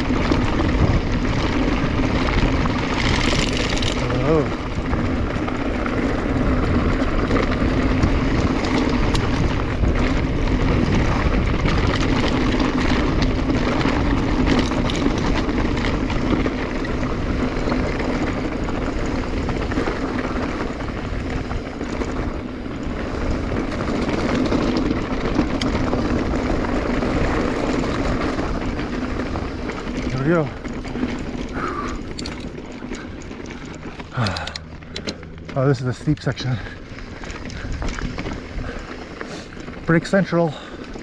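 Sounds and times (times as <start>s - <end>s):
bike clicks and rattles: 0.0s - 41.0s
tyres rolling over dirt and rock: 0.0s - 41.0s
wind rush on microphone: 0.0s - 41.0s.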